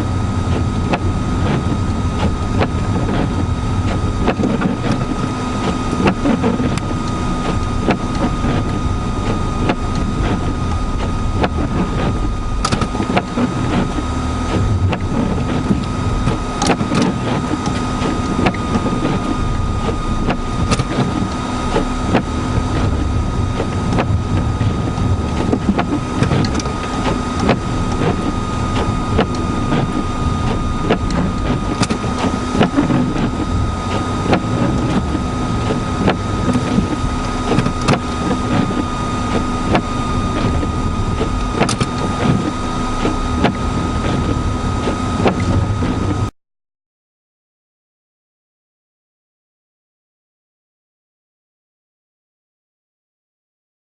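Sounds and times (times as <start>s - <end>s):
constant high whine: 0.0s - 46.3s
low hum: 0.0s - 46.3s
vehicle engine rumbling: 0.0s - 46.3s.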